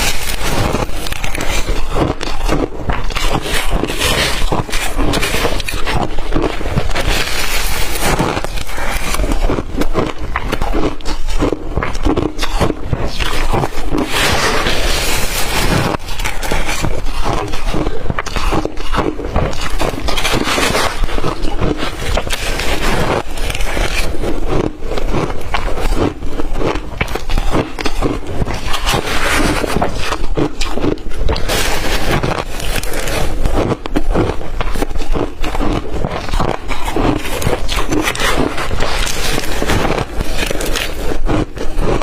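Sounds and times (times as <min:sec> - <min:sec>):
crushed ice being chewed: 0:00.0 - 0:42.0.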